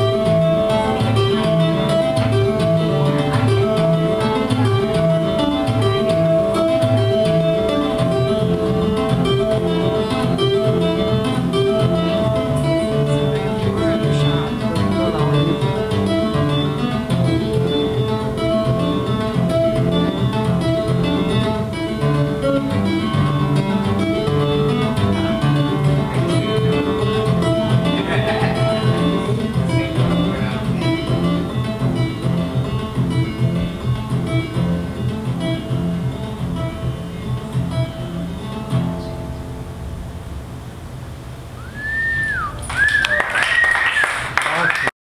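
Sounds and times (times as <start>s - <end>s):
tapped guitar melody: 0.0s - 41.6s.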